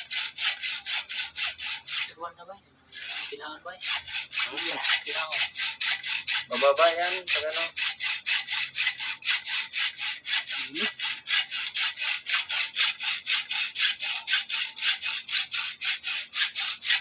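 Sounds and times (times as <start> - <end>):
hacksaw cutting metal: 0.0 - 2.2, 2.9 - 17.0.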